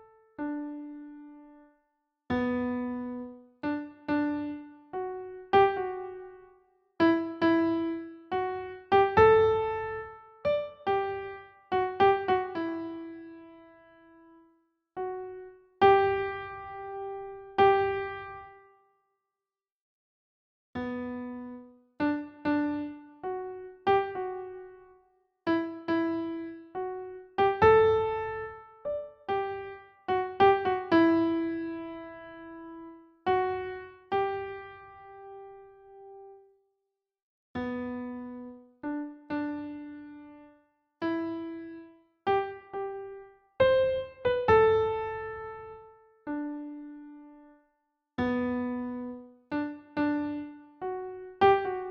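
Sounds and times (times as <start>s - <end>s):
slow solo piano: 2.3s - 14.4s, 15.0s - 18.6s, 20.8s - 36.5s, 37.6s - 47.5s, 48.2s - 51.9s.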